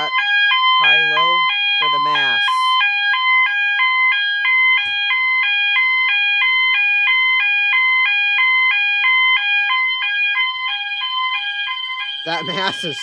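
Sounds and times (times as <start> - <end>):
alarm bell tone: 0.0 - 13.0
high-low fire alarm tone: 0.0 - 13.0.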